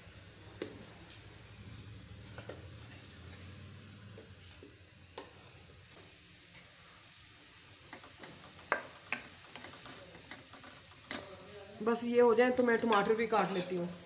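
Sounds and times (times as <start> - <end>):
onions frying faintly: 0.0 - 14.0.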